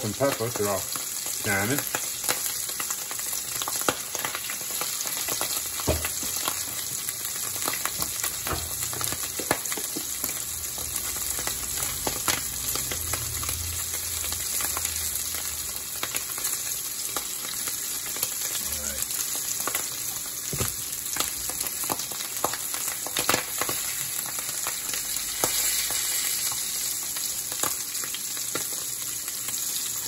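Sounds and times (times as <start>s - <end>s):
fish sizzling in oil: 0.0s - 30.0s.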